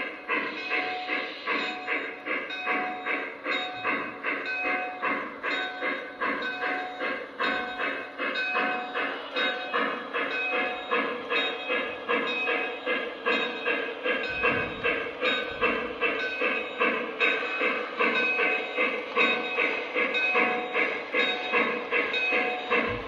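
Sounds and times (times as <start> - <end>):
model locomotive chuffing: 0.0 - 23.0.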